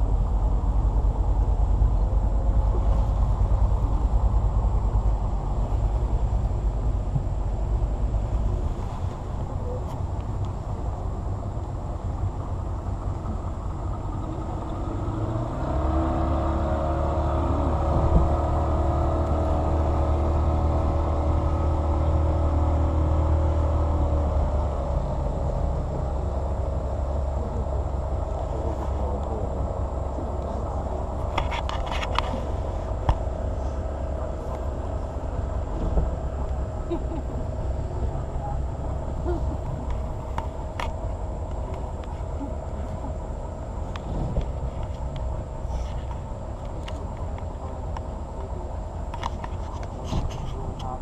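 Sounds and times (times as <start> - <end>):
engine humming: 0.0 - 51.0.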